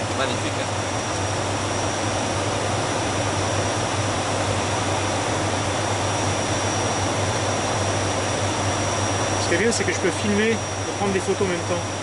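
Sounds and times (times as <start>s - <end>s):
aircraft engines droning in cabin: 0.0s - 12.0s.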